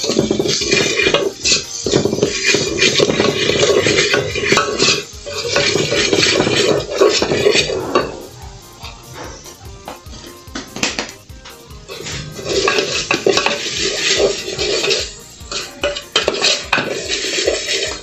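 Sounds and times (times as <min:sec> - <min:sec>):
spoon scraping a pot: 0:00.0 - 0:09.6, 0:11.9 - 0:18.0.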